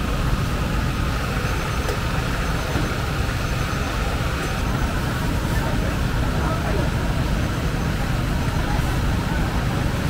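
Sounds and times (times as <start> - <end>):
constant whine: 0.0 - 10.0
low engine-like rumble: 0.0 - 10.0.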